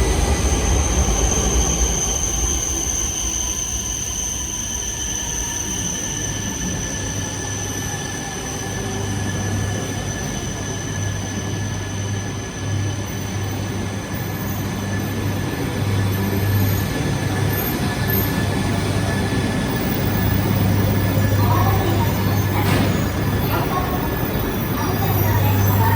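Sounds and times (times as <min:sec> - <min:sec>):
high-pitched train whine: 0:00.0 - 0:25.9.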